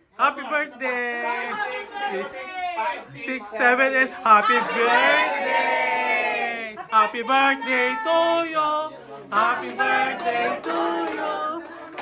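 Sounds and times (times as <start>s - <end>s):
group singing unaccompanied: 1.1s - 12.0s.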